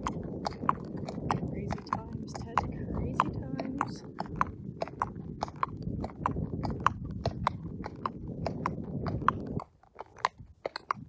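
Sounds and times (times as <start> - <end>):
hooves clip-clopping on tarmac: 0.0 - 11.0
steady low rumble: 0.0 - 11.0.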